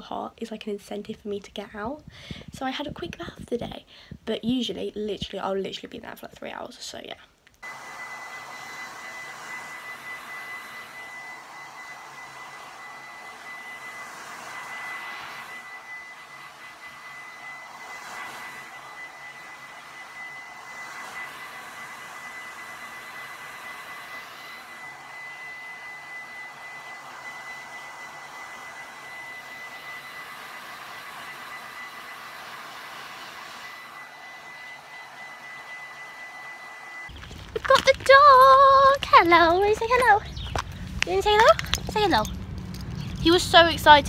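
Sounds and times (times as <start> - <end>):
hair dryer blowing: 7.6 - 44.0
high motor whine: 7.6 - 44.0.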